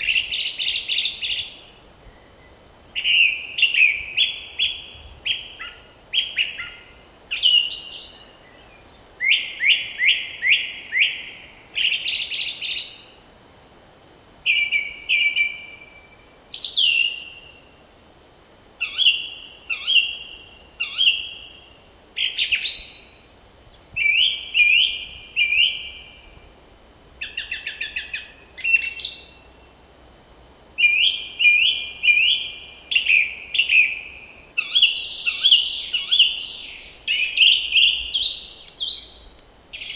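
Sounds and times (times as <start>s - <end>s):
songbirds singing: 0.0s - 13.4s, 14.4s - 39.9s.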